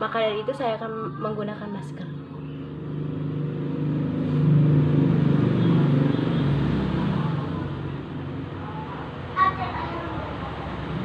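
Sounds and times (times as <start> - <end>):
vehicle engine rumbling by: 1.8 - 11.0.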